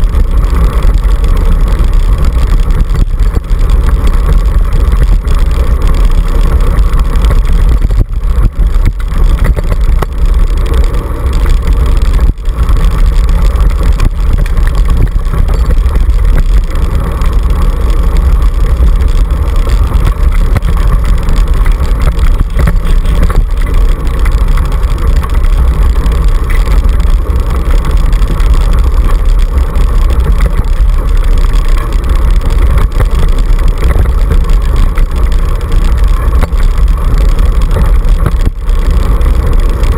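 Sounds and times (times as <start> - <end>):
scooter rolling over dirt: 0.0 - 39.9
wind on microphone: 0.0 - 39.9.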